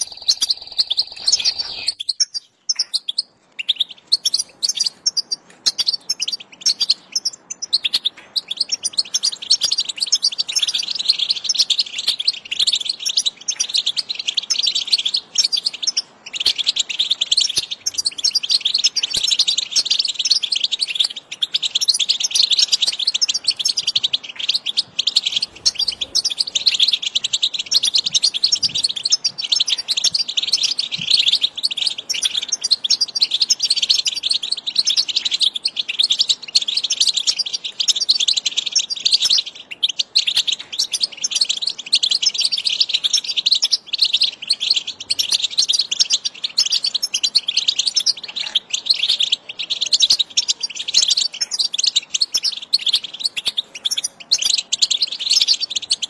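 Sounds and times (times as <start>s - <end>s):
goldfinch high twittering song: 0.0s - 56.0s.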